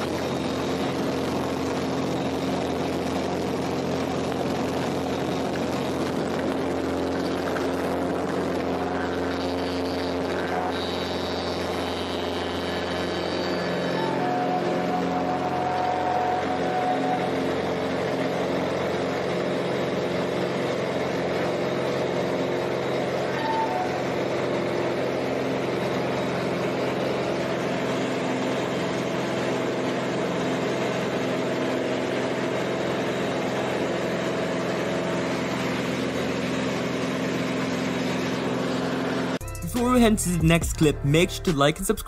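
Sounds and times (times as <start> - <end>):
propeller plane engine droning: 0.0 - 39.4.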